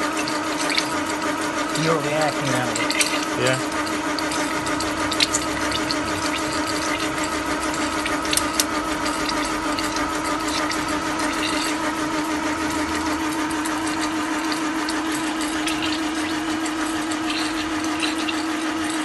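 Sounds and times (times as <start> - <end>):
engine whirring drone: 0.0 - 19.0.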